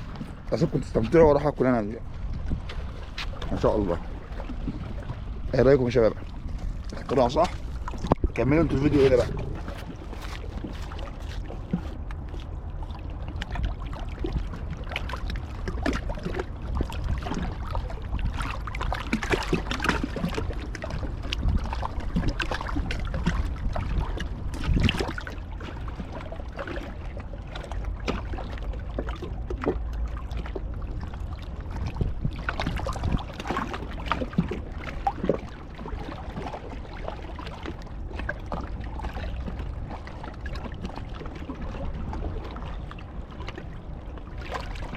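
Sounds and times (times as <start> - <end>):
sea water splashing at shore: 0.0 - 44.9
wind rumble on microphone: 0.0 - 44.9.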